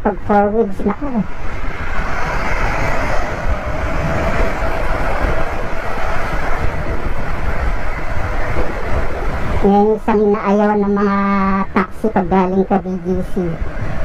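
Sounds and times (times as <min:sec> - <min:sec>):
road noise: 0:00.0 - 0:14.0
wind rush: 0:00.0 - 0:14.0.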